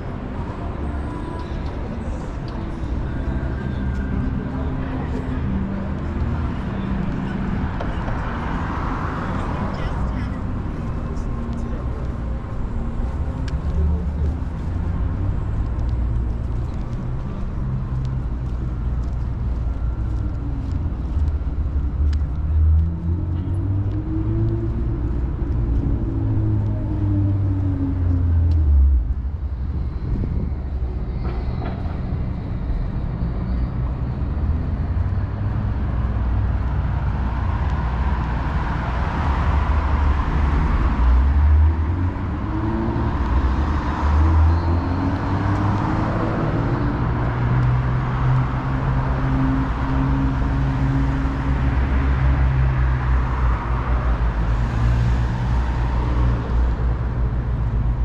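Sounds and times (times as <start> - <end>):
low traffic rumble: 0.0 - 58.0
vehicle engines passing: 0.0 - 58.0.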